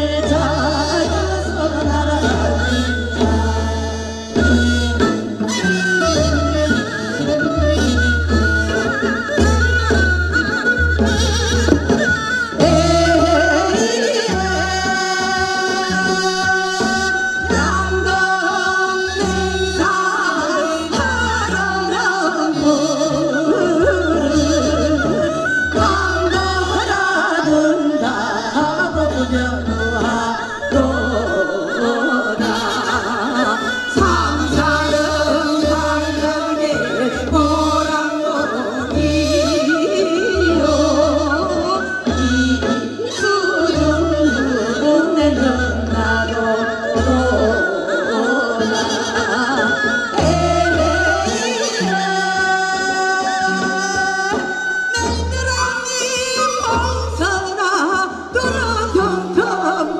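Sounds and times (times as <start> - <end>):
women singing into microphones: 0.0 - 4.9, 11.9 - 59.9.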